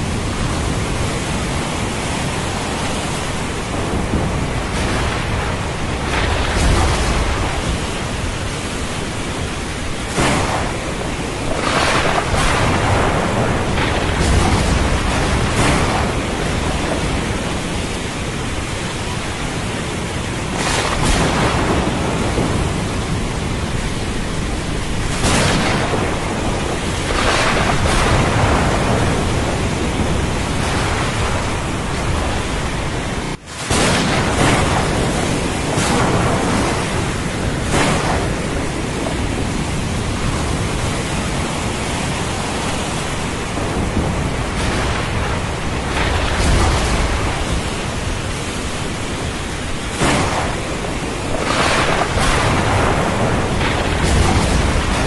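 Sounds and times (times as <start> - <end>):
steady rain: 0.0 - 55.0
thunder rumbling: 0.0 - 55.0.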